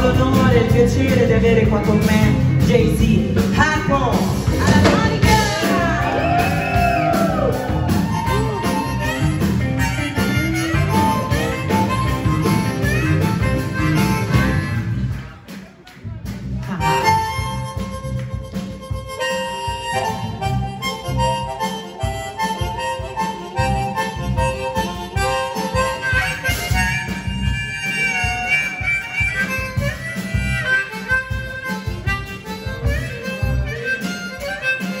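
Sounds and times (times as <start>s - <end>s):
band playing steady beat: 0.0s - 35.0s
amplified harmonica solo: 4.6s - 15.1s, 16.7s - 35.0s.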